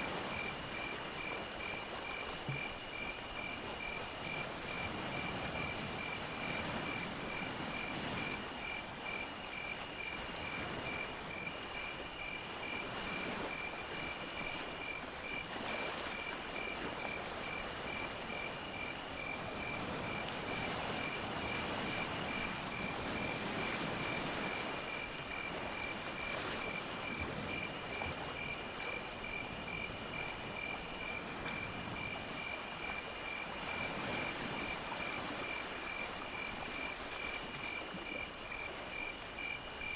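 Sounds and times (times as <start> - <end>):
cricket trilling: 0.1 - 39.9.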